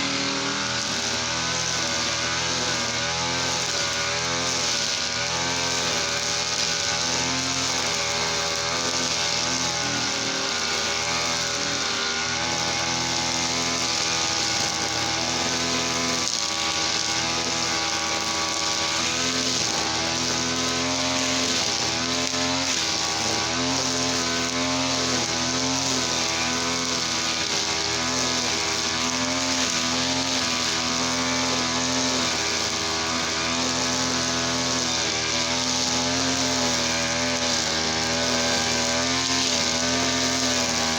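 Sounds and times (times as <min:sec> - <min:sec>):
brush cutter engine revving: 0:00.0 - 0:40.9.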